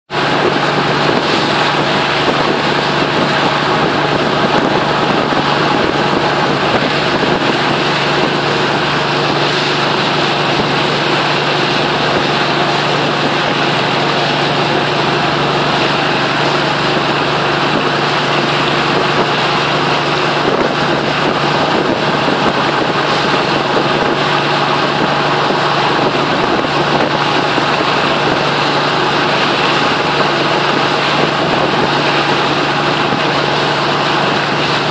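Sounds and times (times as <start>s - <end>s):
boat engine humming: 0.1s - 34.9s
water rushing: 0.1s - 34.9s
wind: 0.1s - 34.9s.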